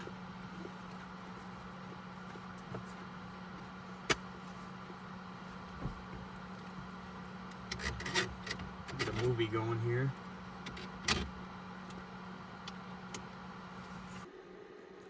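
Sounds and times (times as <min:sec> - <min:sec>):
space heater humming with fan: 0:00.0 - 0:15.0.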